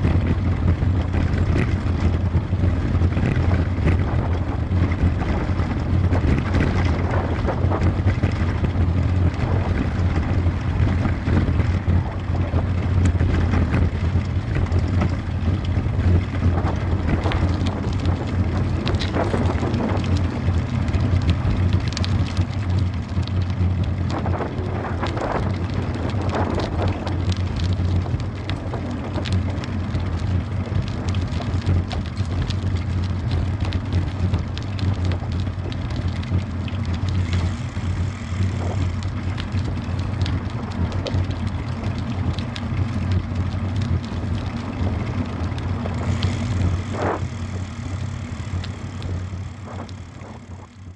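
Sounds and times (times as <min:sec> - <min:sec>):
bicycle clicks and rattles: 0:00.0 - 0:50.9
tyres rolling on pavement: 0:00.0 - 0:50.9
wind rushing past microphone: 0:00.0 - 0:50.9.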